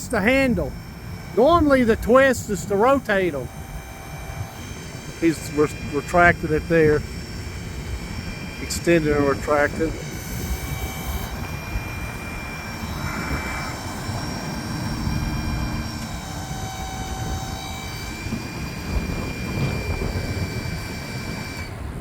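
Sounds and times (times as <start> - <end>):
diesel truck engine running: 0.0 - 22.0
hydraulic whine: 0.0 - 22.0.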